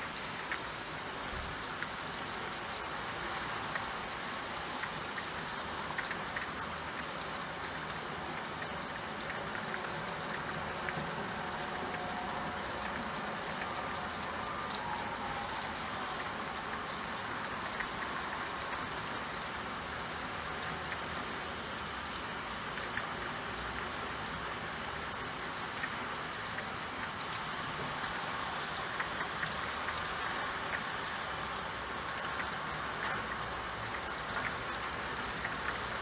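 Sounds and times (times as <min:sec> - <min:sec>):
rain falling: 0:00.0 - 0:36.0
raindrops ticking: 0:00.1 - 0:36.0.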